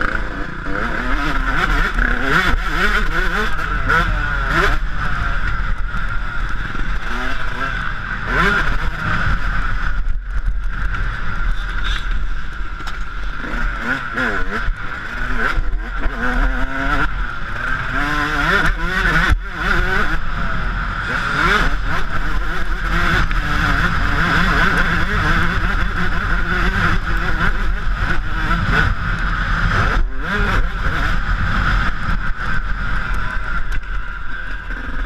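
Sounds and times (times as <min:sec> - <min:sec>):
motocross engine revving: 0:00.0 - 0:35.0
steady rush of noise: 0:00.0 - 0:35.0.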